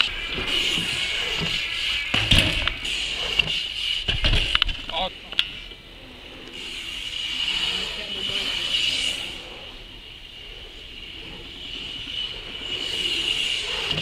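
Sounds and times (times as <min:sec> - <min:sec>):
bike tyres rolling on concrete: 0:00.0 - 0:14.0
high-pitched whine: 0:00.0 - 0:14.0.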